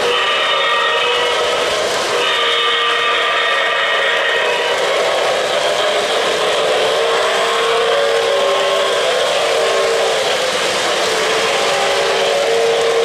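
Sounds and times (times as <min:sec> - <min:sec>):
model train wheels clattering: 0:00.0 - 0:13.0.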